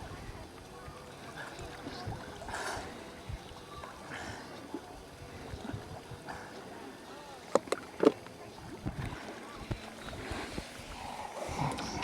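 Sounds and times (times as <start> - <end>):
water splashing in a pool: 0.0 - 12.0.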